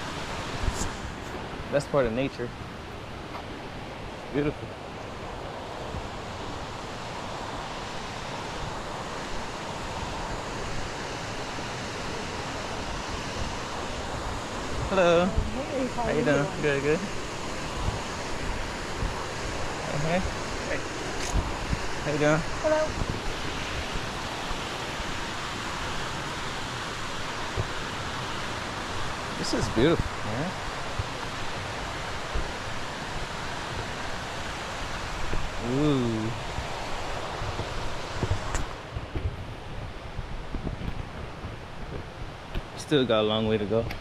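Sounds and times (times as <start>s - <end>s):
mountain stream rushing: 0.0s - 44.0s.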